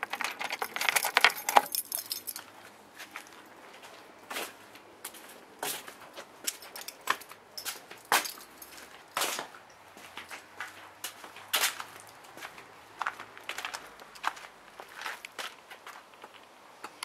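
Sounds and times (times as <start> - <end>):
footsteps on gravel: 1.0 - 17.0.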